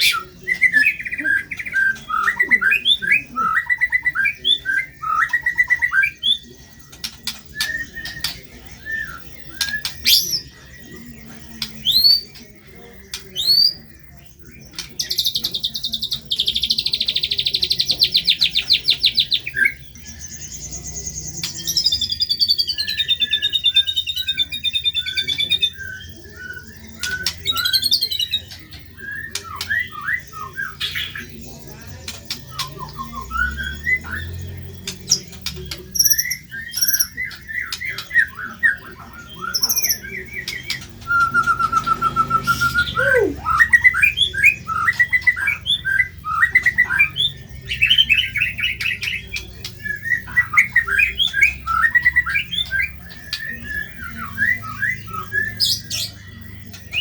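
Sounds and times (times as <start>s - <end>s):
songbird singing chirps and whistles: 0.0s - 57.0s.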